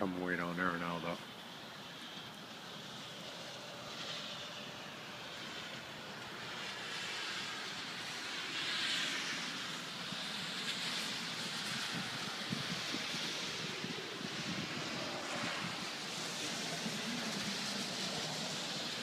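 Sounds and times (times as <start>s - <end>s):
car tyres hissing on wet road: 0.0s - 19.0s
rain hiss: 0.0s - 19.0s.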